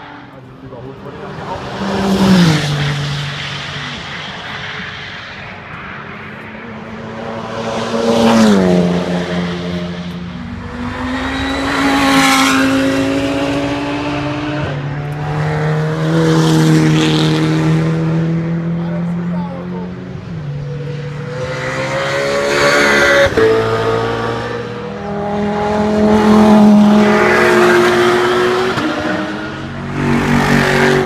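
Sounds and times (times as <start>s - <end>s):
race cars passing at speed: 0.0s - 31.0s.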